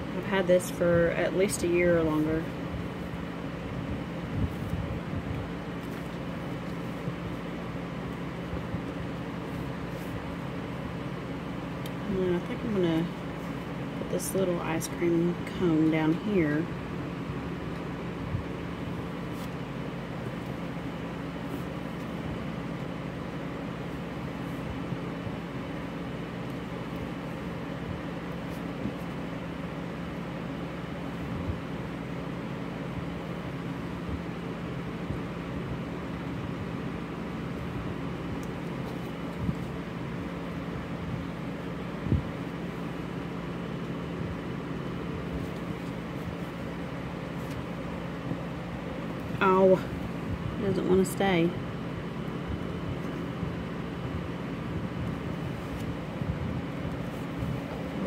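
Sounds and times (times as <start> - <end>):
background hum and hiss: 0.0 - 58.0.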